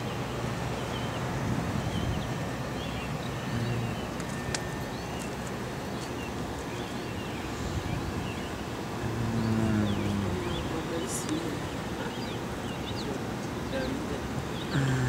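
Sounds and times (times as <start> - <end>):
road traffic noise: 0.0 - 15.0
vehicle engine hum: 0.0 - 15.0.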